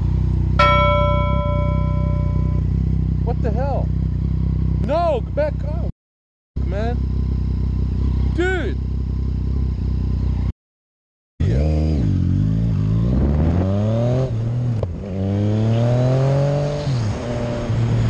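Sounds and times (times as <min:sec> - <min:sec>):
motorcycle engine accelerating: 0:00.0 - 0:05.9, 0:06.6 - 0:10.5, 0:11.4 - 0:18.0.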